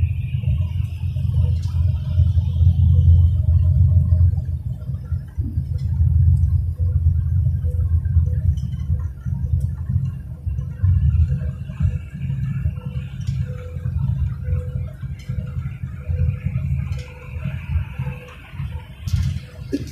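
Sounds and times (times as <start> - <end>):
car cabin road and engine noise: 0.0 - 19.9.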